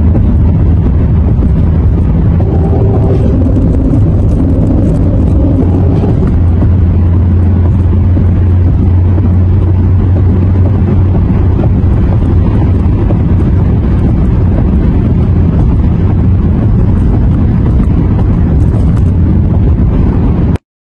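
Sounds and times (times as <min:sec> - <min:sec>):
car interior road drone: 0:00.0 - 0:20.6.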